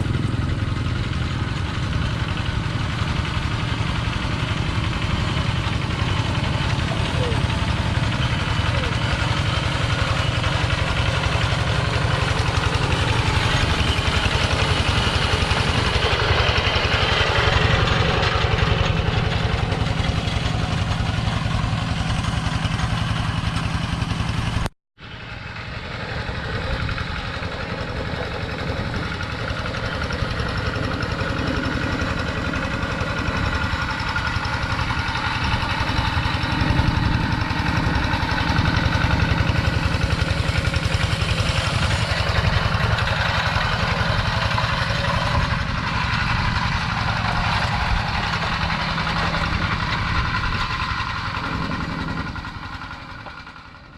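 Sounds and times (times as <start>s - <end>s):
walk-behind tractor engine running: 0.0s - 53.9s.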